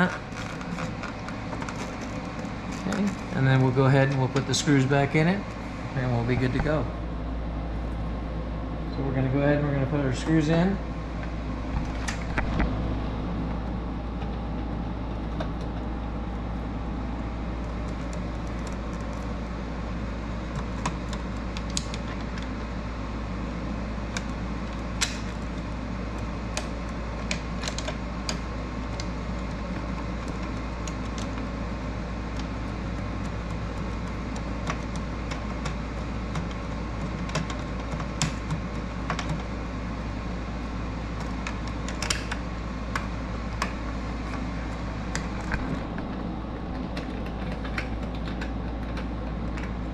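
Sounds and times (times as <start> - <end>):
low background hum: 0.0 - 49.9.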